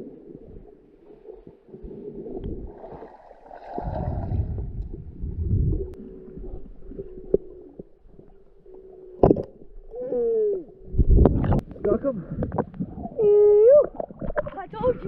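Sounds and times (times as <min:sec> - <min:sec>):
underwater rumbling and gurgling: 0:00.0 - 0:15.0.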